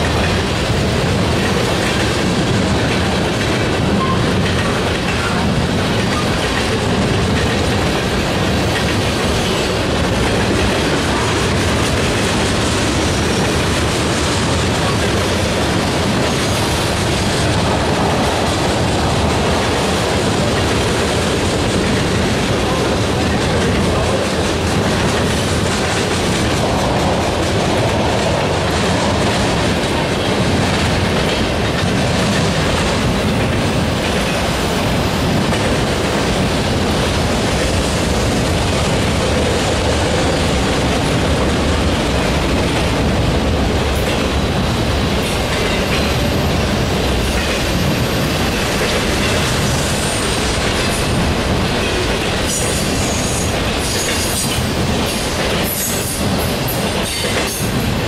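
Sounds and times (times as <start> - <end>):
clickety-clack over rail joints: 0.0 - 58.0
train wheels rolling on rails: 0.0 - 58.0.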